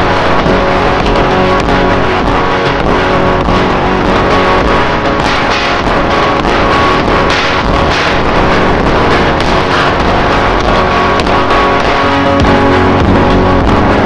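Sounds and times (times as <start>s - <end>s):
drum kit beat: 0.0s - 14.0s
guitar: 0.0s - 14.0s.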